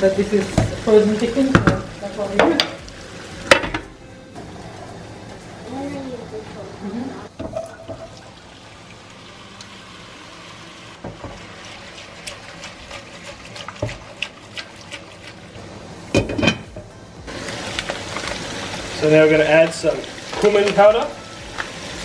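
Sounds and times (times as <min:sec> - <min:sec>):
potatoes sizzling in oil: 0:00.0 - 0:22.0.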